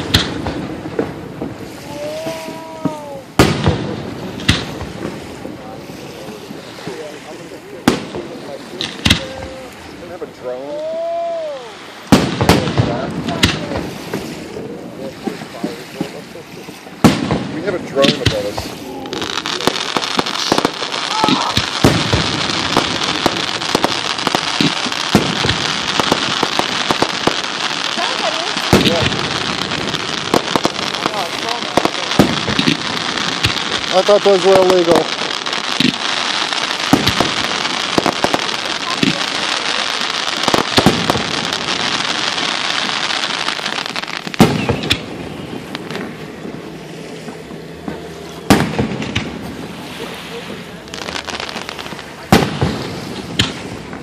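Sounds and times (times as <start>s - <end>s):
fireworks crackling and popping: 0.0s - 54.0s.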